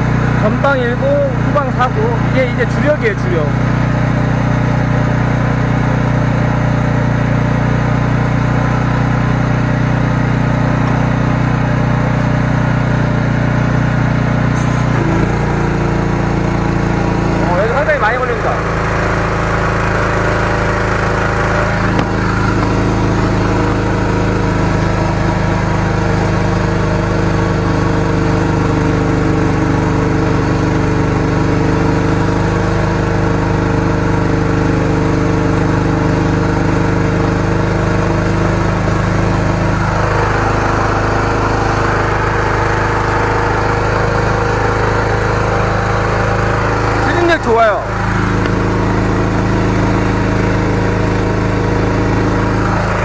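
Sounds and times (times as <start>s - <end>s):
sewer jetter engine running: 0.0s - 53.0s.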